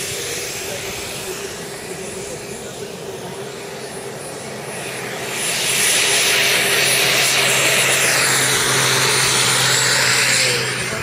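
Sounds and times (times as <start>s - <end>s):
model helicopter turbine whine: 0.0s - 11.0s.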